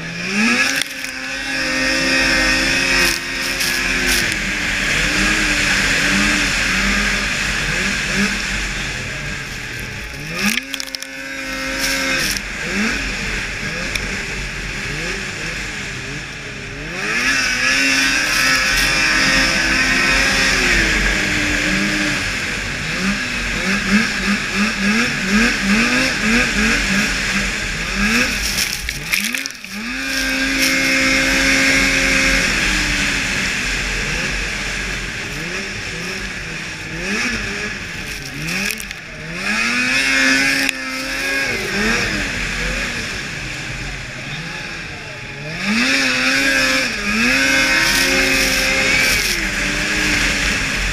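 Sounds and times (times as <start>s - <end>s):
snowmobile engine revving: 0.0s - 50.9s.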